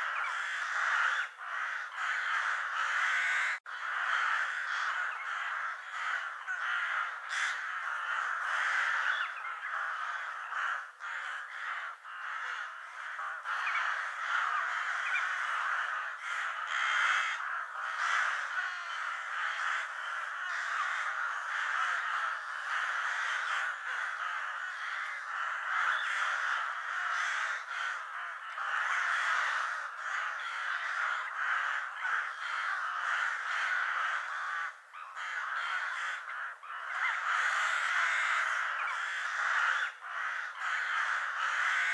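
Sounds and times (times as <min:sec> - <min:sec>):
ravens cawing: 0:00.0 - 0:41.9.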